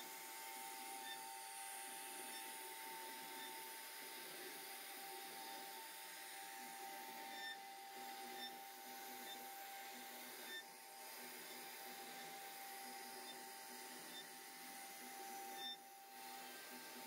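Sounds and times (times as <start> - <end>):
router spindle high whine: 0.0 - 17.0.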